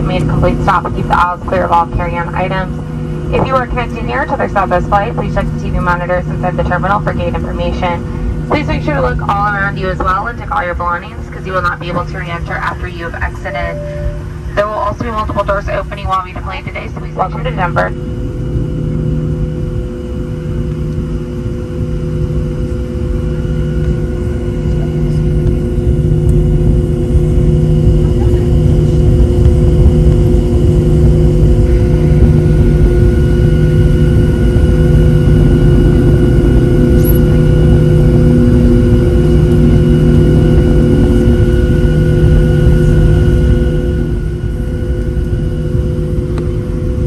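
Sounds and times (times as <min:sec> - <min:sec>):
jet engines rumbling and whining: 0:00.0 - 0:47.0
low throb pulsing: 0:00.0 - 0:47.0.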